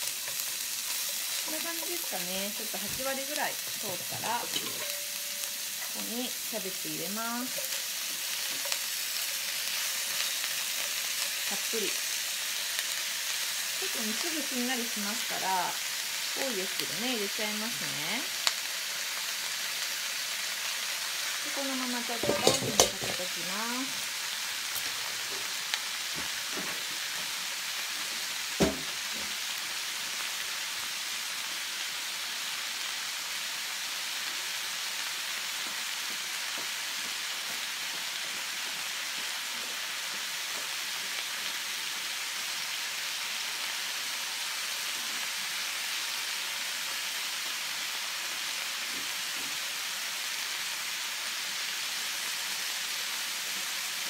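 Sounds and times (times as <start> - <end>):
meat and cabbage sizzling in pan: 0.0 - 54.0.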